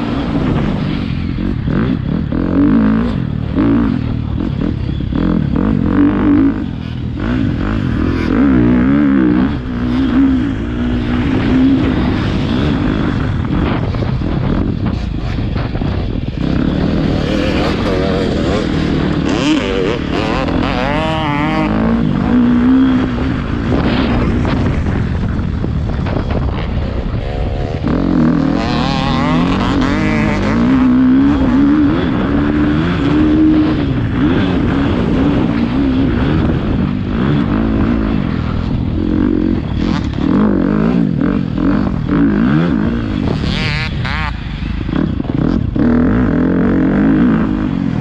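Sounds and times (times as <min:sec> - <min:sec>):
motocross bike engine revving: 0:00.0 - 0:48.0.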